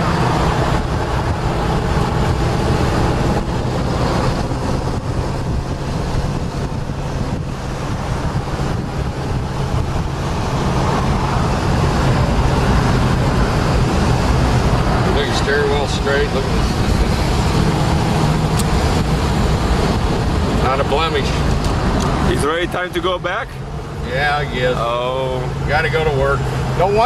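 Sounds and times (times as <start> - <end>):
wind buffeting on microphone: 0.0 - 22.4
car engine running: 0.0 - 27.0
road noise: 0.0 - 27.0.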